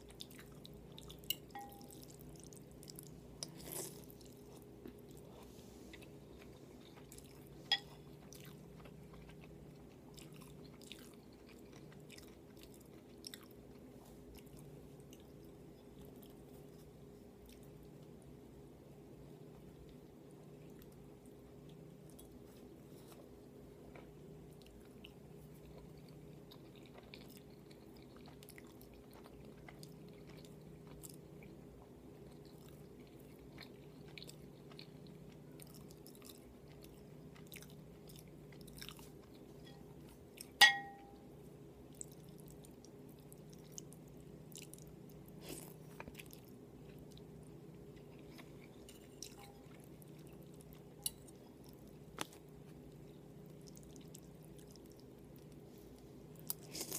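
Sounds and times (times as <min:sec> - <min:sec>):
chewing and wet mouth noises: 0:00.0 - 0:18.3, 0:19.3 - 0:40.6, 0:41.8 - 0:56.9.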